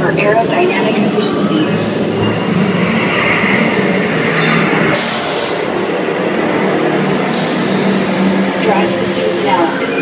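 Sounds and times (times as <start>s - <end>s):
ride vehicle rumbling on track: 0.0s - 10.0s.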